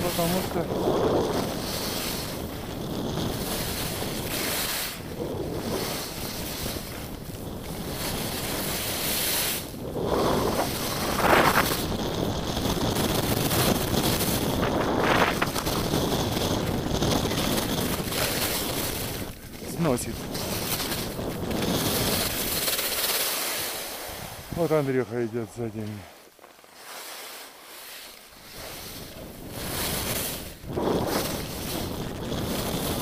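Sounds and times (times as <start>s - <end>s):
wind buffeting microphone: 0.0s - 22.9s, 23.6s - 25.9s, 28.3s - 33.0s
skis hissing on snow: 0.0s - 33.0s.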